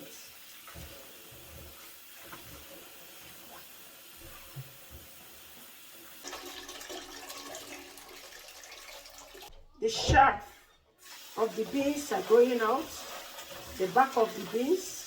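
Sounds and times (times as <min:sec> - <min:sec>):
water pouring into a sink: 0:00.0 - 0:09.8, 0:11.0 - 0:15.0.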